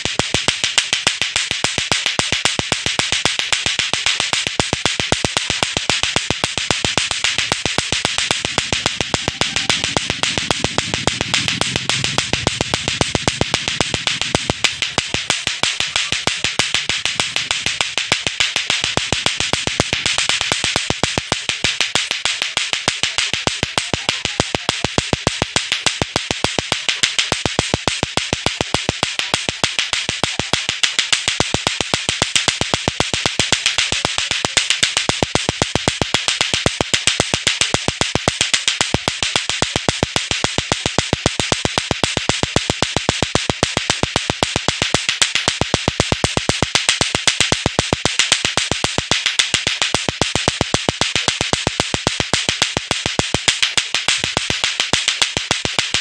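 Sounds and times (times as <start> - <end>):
plastic clacker balls clacking: 0.0 - 56.0.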